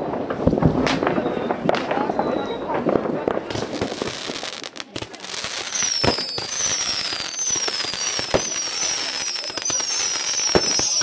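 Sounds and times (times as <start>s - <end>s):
fireworks crackling: 0.0s - 11.0s
whistling fireworks: 0.0s - 11.0s
sharp firework bangs: 0.2s - 11.0s.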